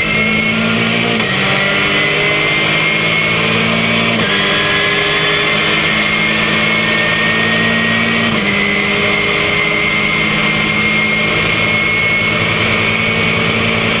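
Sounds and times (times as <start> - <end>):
race car engine at high revs: 0.0 - 14.0.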